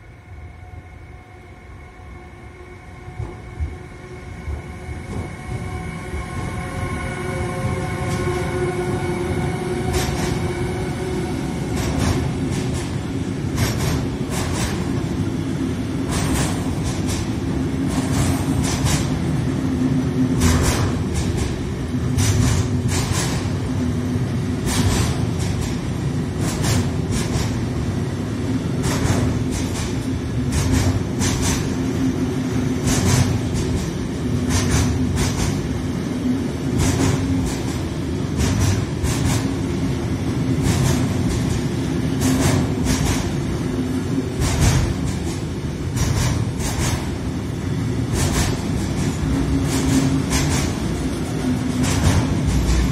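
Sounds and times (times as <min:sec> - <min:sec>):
electric locomotive whine: 0:00.0 - 0:52.9
freight train rumbling past: 0:00.0 - 0:52.9.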